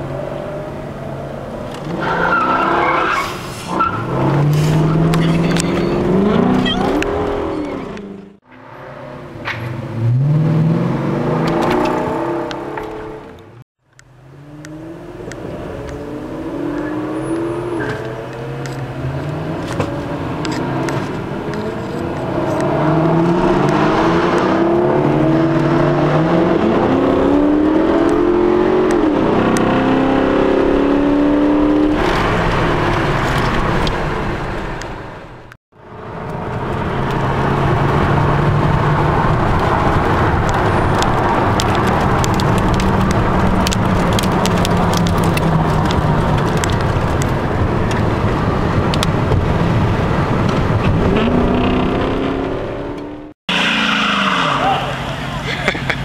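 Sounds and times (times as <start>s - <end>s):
car engine accelerating: 3.8s - 35.2s, 35.8s - 56.0s.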